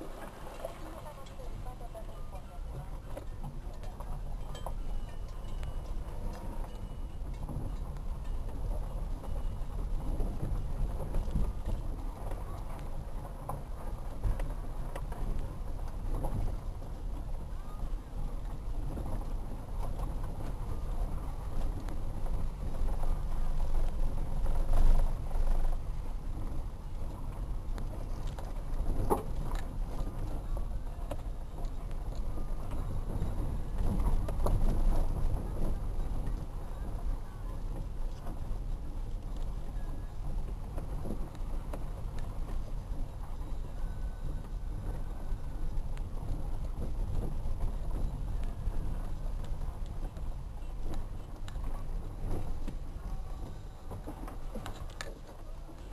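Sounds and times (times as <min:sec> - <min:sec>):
car engine and tyres rumbling: 0:00.0 - 0:55.9.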